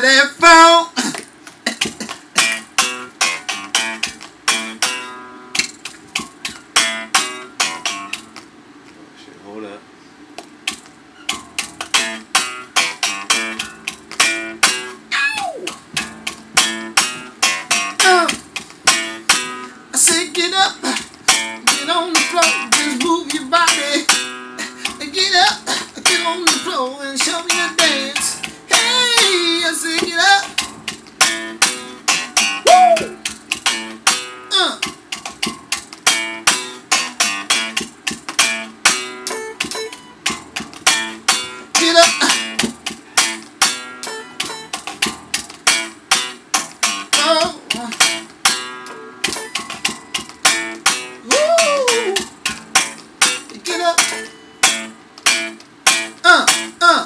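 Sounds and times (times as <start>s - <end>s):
funk guitar strumming: 0.0s - 8.8s, 10.3s - 57.0s.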